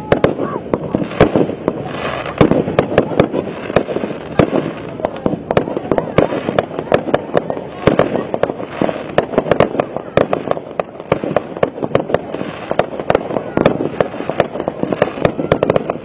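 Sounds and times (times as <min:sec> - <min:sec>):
fireworks bursting with sharp bangs: 0:00.0 - 0:16.0
fireworks crackling: 0:00.0 - 0:16.0.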